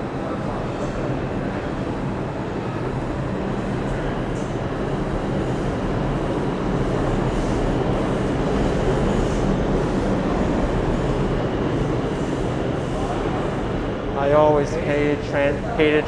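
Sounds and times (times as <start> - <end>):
subway train rumbling on tracks: 0.0 - 16.0.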